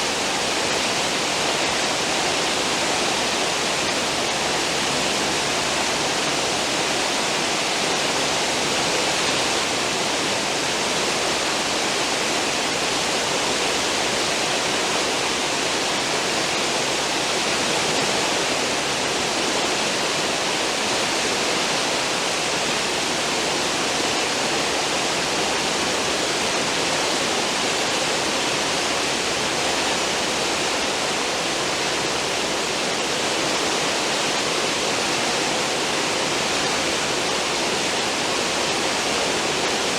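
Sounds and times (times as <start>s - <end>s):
ship wake churning: 0.0s - 39.9s.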